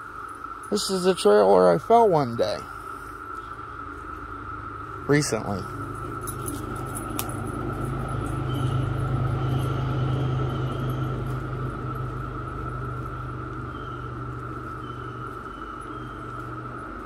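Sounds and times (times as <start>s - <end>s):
cicada chorus drone: 0.0s - 17.0s
low rumble: 3.3s - 17.0s.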